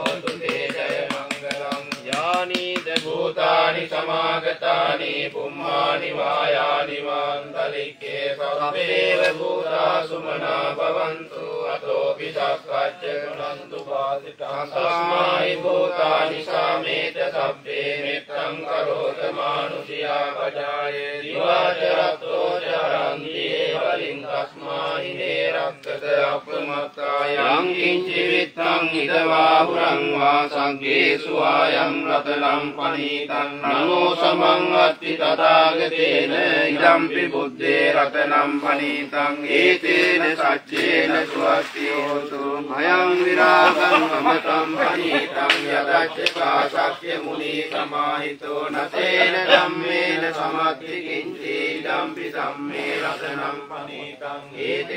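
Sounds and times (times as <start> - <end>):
monks chanting together: 0.0 - 54.9.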